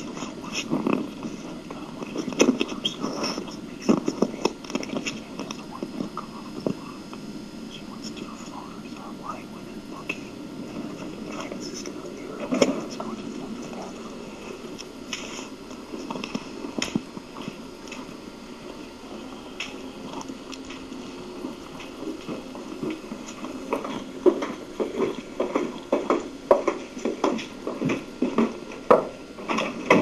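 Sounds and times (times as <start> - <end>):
steady room hiss: 0.0 - 30.0.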